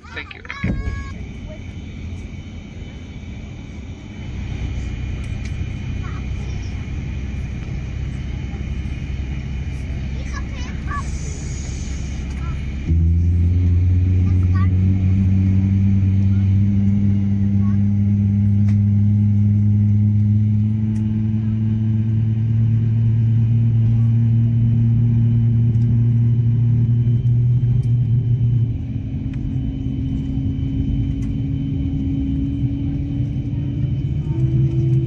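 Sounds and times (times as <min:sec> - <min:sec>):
aircraft cabin drone: 0:00.0 - 0:35.0.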